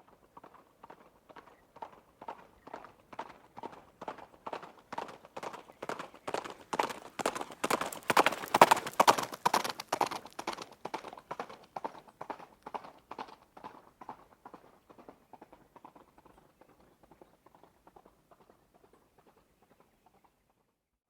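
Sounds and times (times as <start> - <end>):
horse hoofbeats: 0.0 - 20.6.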